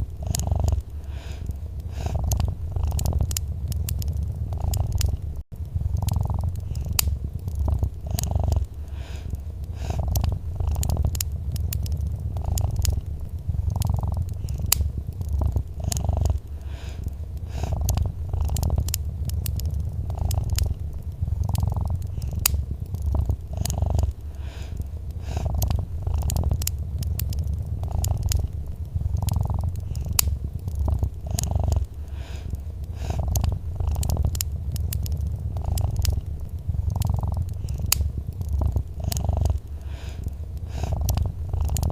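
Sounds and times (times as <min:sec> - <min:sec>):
cat purring: 0:00.0 - 0:41.9
wood fire crackling: 0:00.0 - 0:41.9.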